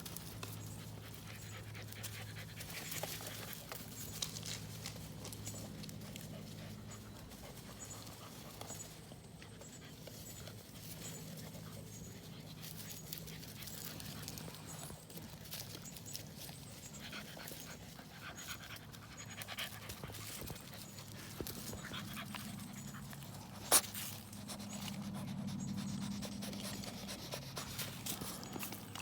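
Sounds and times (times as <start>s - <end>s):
puppy panting: 0.2s - 29.0s.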